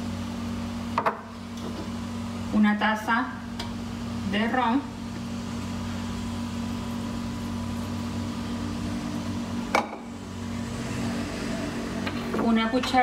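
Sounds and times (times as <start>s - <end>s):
appliance low hum: 0.0s - 13.0s.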